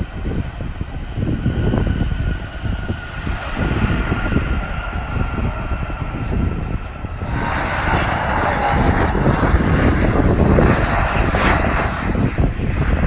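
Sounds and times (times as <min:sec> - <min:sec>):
jet engine rushing: 0:00.0 - 0:13.0.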